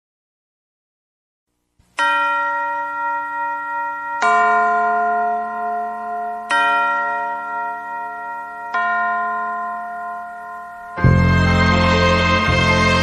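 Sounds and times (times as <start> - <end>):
bell chimes: 2.0 - 13.0.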